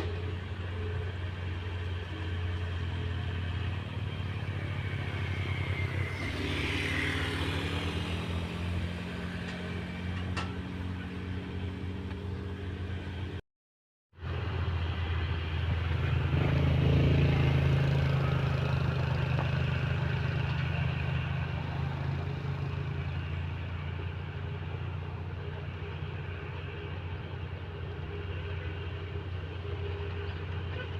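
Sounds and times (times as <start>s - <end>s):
heavy machine diesel engines: 0.0s - 13.4s, 14.2s - 30.9s.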